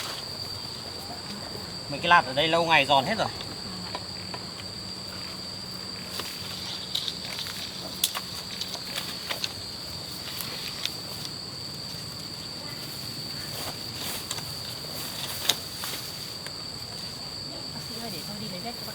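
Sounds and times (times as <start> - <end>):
insects droning: 0.0 - 18.9.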